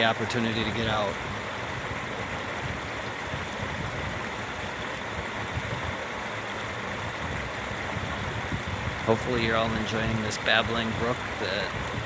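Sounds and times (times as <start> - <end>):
brook burbling over rocks: 0.0 - 12.0.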